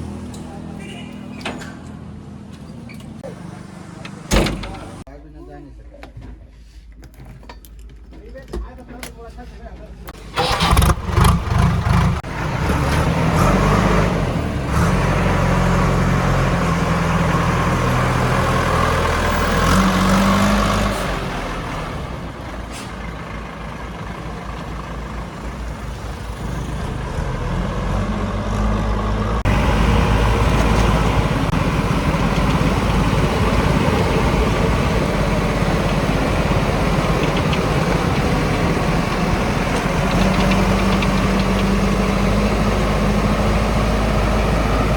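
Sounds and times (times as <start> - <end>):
heavy diesel engine running: 3.2 - 5.1, 10.2 - 44.9.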